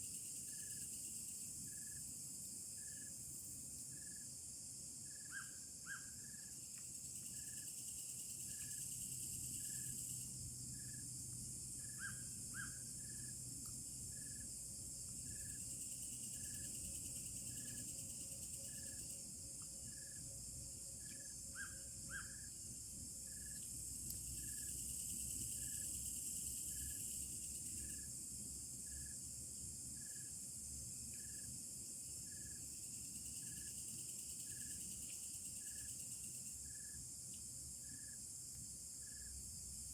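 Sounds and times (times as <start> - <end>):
forest insects chirring: 0.0 - 39.9.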